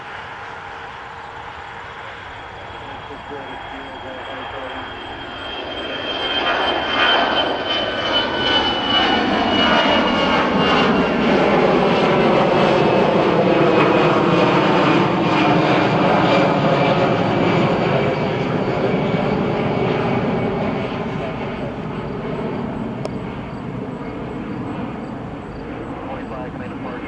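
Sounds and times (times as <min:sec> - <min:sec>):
jet engines passing: 0:00.0 - 0:27.0.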